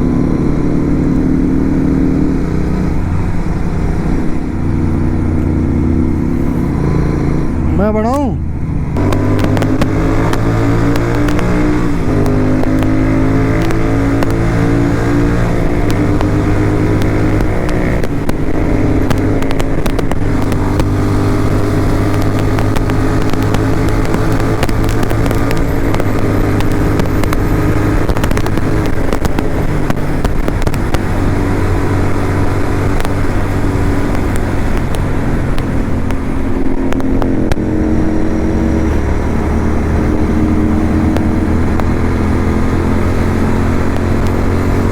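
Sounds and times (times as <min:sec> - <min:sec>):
motorcycle engine: 0:00.0 - 0:44.9
wind rush: 0:01.9 - 0:44.9.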